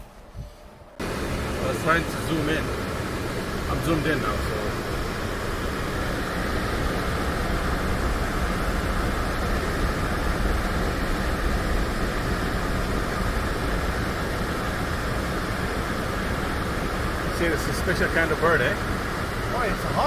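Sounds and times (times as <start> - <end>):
steady rushing outdoor noise: 0.0 - 20.0.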